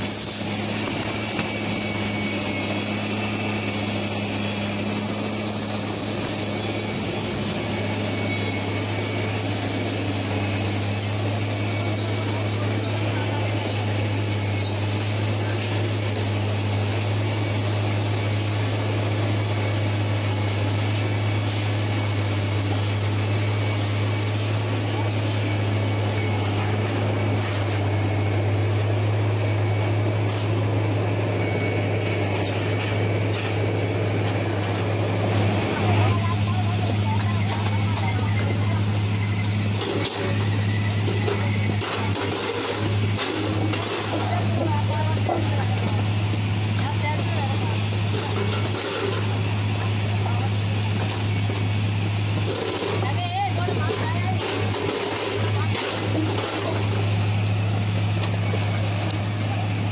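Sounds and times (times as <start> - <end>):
track-laying machine humming: 0.0 - 59.9.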